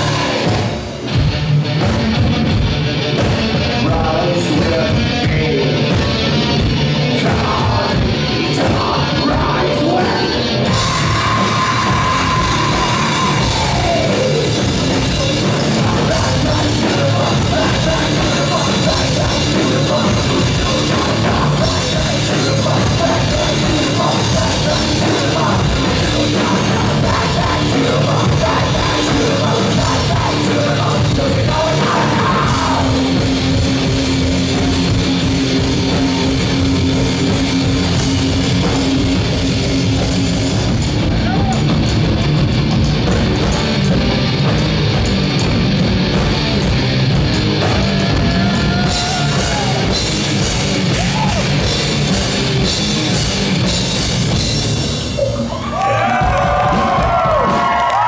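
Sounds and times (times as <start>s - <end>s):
yelled vocals: 0.0s - 1.2s, 3.5s - 58.0s
heavy rock band playing: 0.0s - 58.0s.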